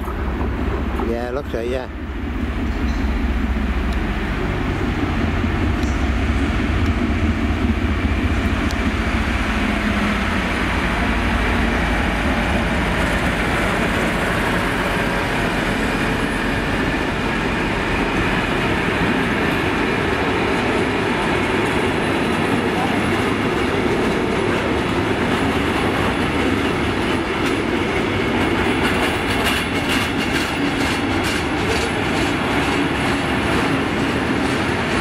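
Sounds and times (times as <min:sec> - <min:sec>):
diesel locomotive engine drone: 0:00.0 - 0:35.0
wagon wheels rumbling on rail: 0:00.0 - 0:35.0.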